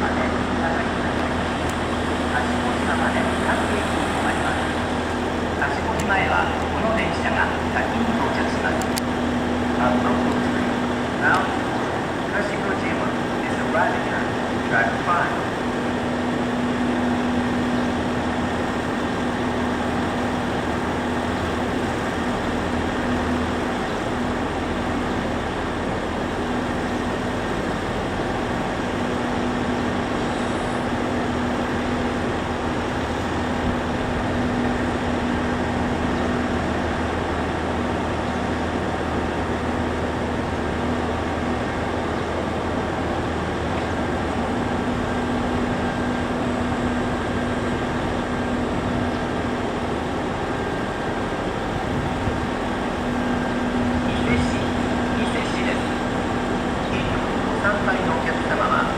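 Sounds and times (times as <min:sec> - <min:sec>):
steady mechanical hum: 0:00.0 - 0:58.9.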